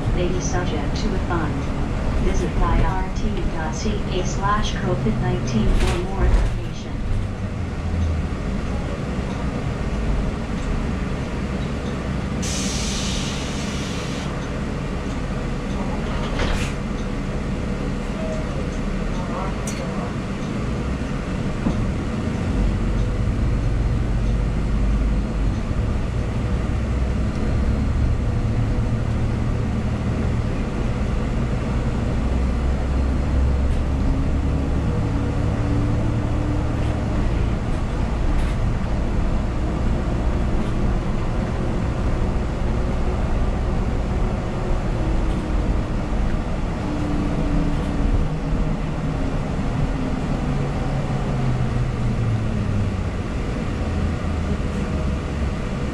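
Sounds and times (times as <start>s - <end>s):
bus engine and road noise: 0.0s - 55.9s.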